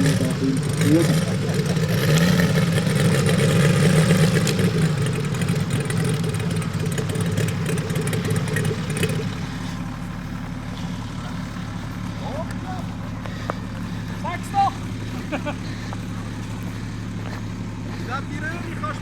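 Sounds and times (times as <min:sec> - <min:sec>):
model aircraft engine idling: 0:00.0 - 0:19.0.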